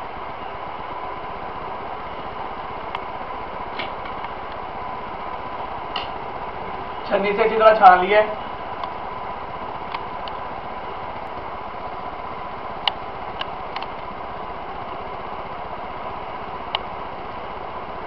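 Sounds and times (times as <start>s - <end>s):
mechanical hum with whine: 0.0s - 18.0s.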